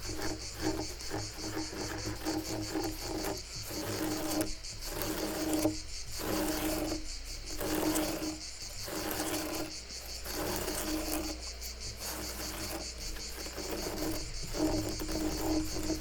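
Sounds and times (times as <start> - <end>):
crickets chirping: 0.0 - 16.0
scratching on wood: 0.0 - 16.0.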